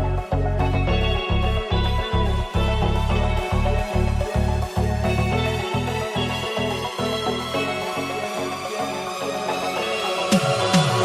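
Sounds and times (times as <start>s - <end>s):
music with pulsing bass and beat: 0.0s - 11.0s.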